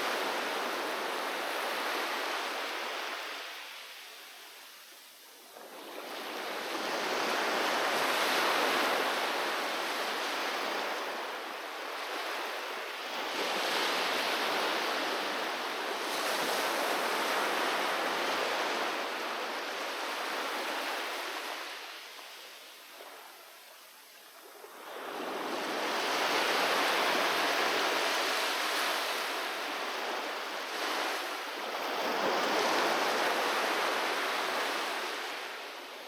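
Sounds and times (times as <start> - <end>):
ocean waves washing onto beach: 0.0 - 36.0.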